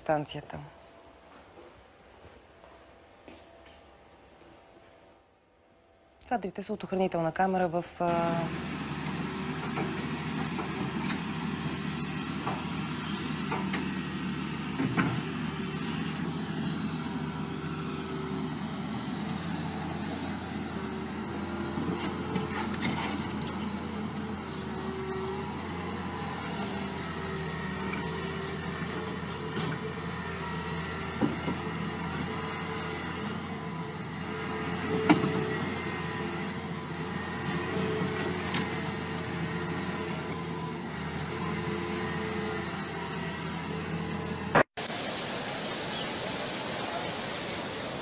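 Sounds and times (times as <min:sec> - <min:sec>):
road traffic engines: 0:08.0 - 0:48.0.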